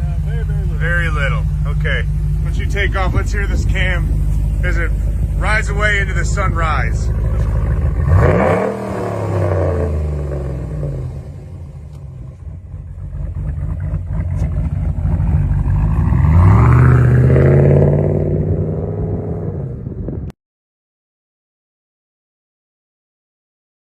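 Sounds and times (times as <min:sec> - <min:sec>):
engine accelerating: 0:00.0 - 0:20.3.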